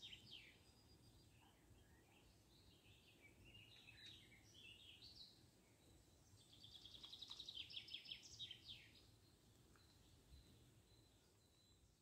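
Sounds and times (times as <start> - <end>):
faint songbirds chirping: 0.0 - 12.0.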